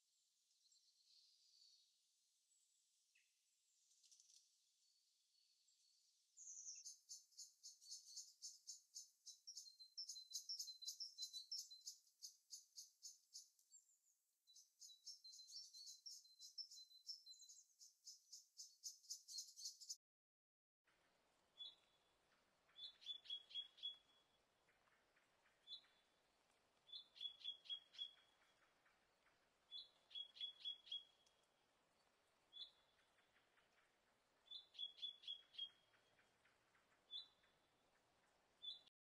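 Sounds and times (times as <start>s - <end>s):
faint birdsong: 0.0s - 20.0s, 20.9s - 39.0s.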